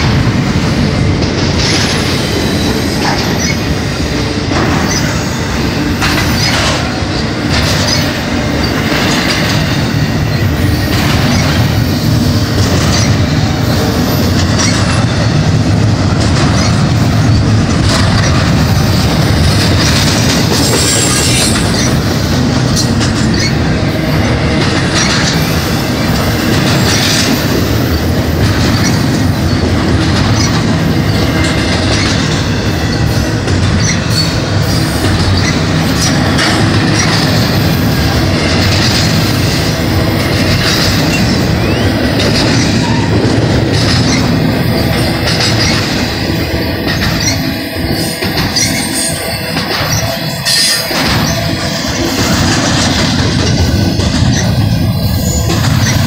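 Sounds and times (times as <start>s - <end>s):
freight train cars rolling: 0.0s - 56.0s.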